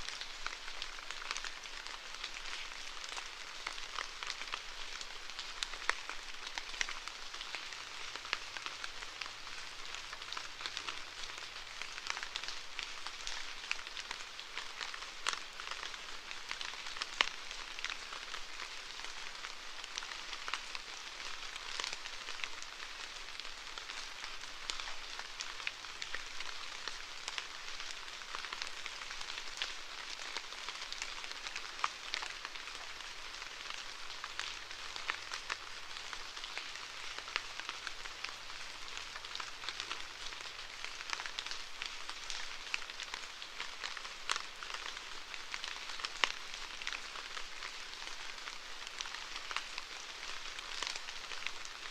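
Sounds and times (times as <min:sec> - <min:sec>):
rain hiss: 0:00.0 - 0:51.9.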